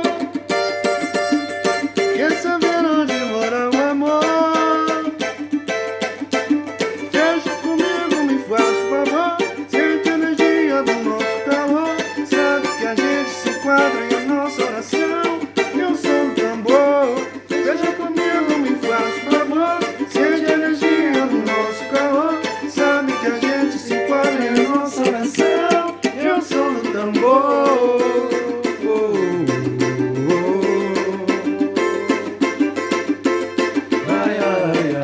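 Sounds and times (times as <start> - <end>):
plucked string instrument: 0.0 - 35.0.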